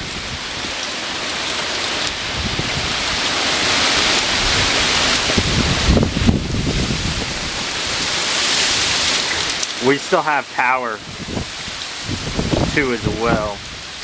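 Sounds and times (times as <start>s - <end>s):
wind buffeting microphone: 0.0s - 9.7s, 11.0s - 14.0s
hurricane wind and rain: 0.0s - 14.0s.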